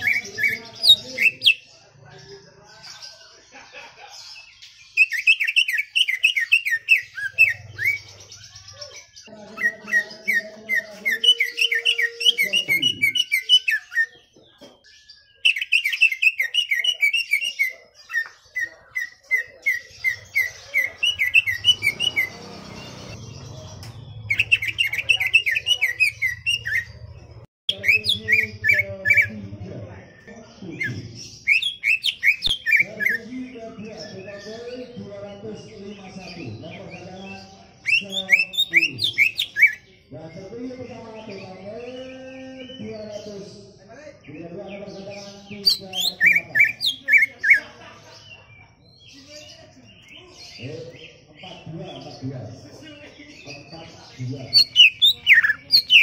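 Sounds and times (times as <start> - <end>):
bird singing fast chirping notes: 0.0 - 1.8, 4.4 - 56.0.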